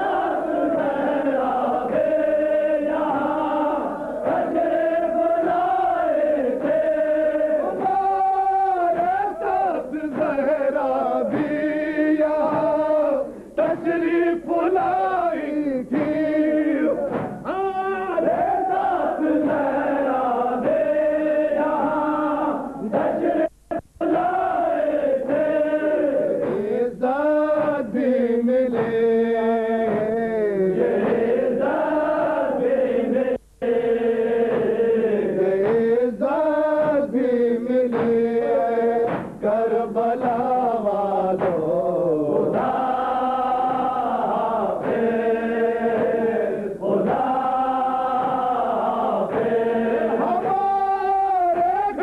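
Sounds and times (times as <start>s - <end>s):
men chanting a lament: 0.0s - 52.0s.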